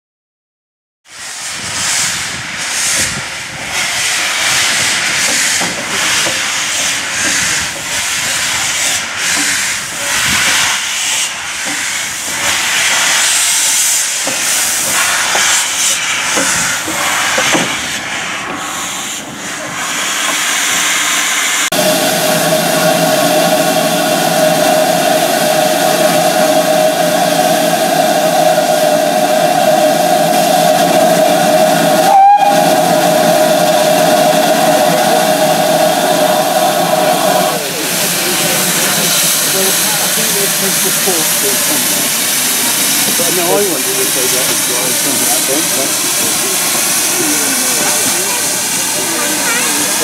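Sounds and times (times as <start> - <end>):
steam hissing: 1.1 - 50.0
steam locomotive exhaust beats: 1.1 - 50.0.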